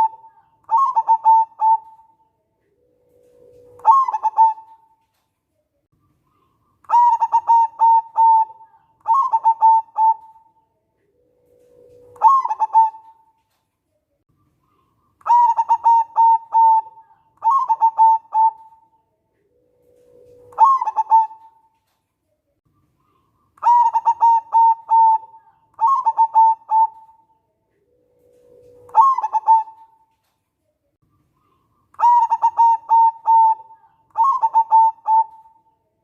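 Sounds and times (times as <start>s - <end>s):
dove cooing: 0.0s - 5.0s, 6.3s - 13.4s, 14.7s - 21.9s, 23.0s - 30.2s, 31.4s - 35.8s.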